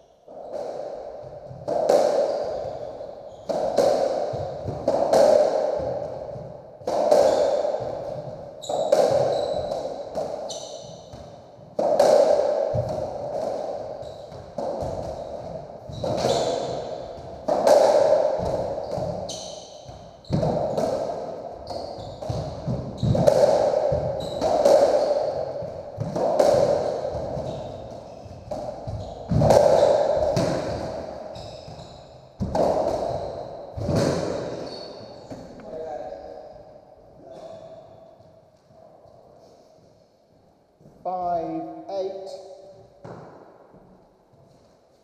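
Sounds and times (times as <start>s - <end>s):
racquet hitting ball: 0.3s - 35.8s, 42.4s - 43.7s
ball hitting walls with echo: 0.3s - 38.6s, 42.2s - 44.1s.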